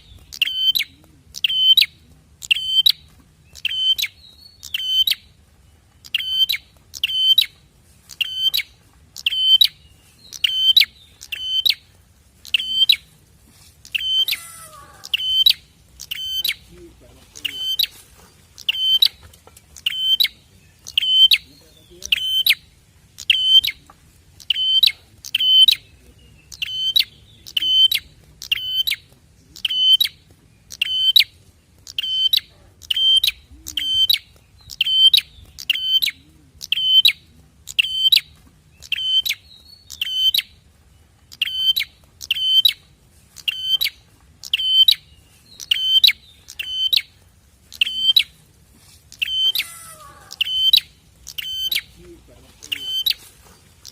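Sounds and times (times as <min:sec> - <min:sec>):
bird high chirping call: 0:00.0 - 0:13.1, 0:13.8 - 0:23.8, 0:24.4 - 0:40.6, 0:41.3 - 0:48.4, 0:49.1 - 0:53.9.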